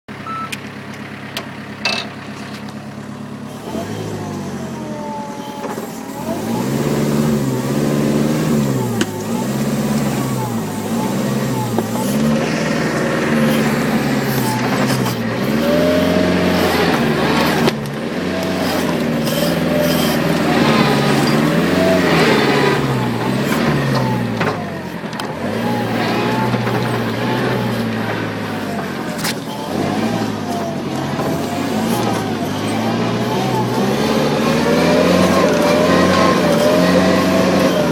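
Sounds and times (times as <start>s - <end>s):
dumper engine revving: 0.1s - 37.9s.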